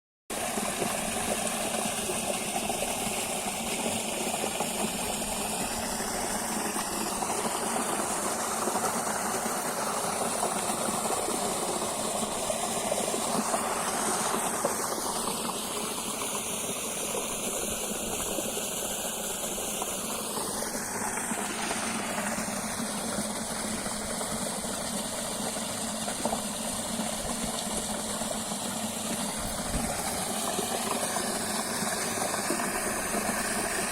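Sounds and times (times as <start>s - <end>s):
water rushing: 0.3s - 33.9s.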